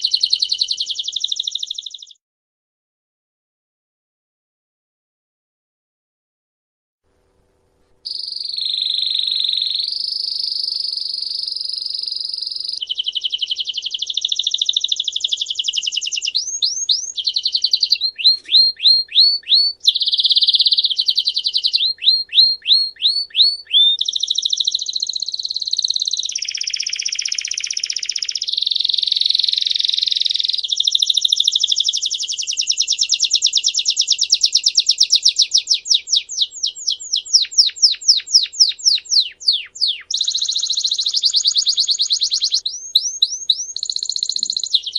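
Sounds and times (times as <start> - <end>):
songbird singing trills: 0.0 - 2.2, 8.1 - 44.9.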